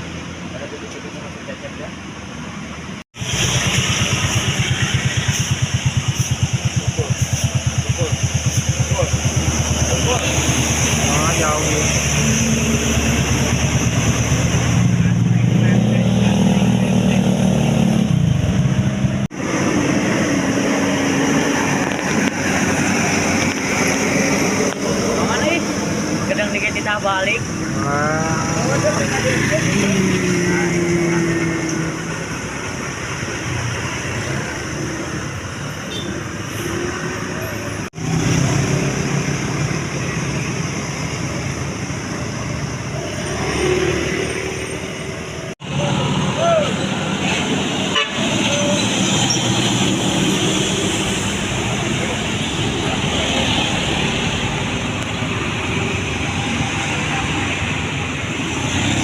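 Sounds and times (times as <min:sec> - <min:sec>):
heavy vehicle engine: 0:00.0 - 0:59.0
road traffic noise: 0:00.0 - 0:59.0.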